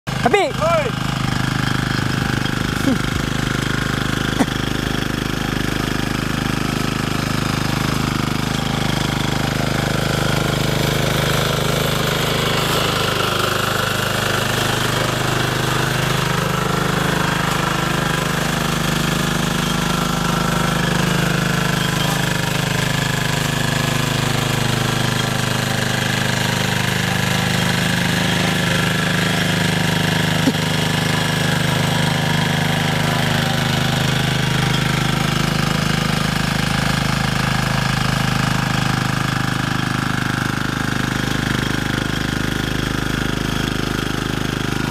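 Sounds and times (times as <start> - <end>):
diesel engine chugging: 0.1 - 44.9
tines churning soil: 0.1 - 44.9.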